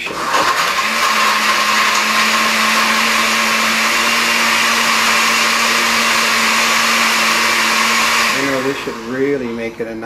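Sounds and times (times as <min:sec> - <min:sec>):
blender running: 0:00.0 - 0:10.0.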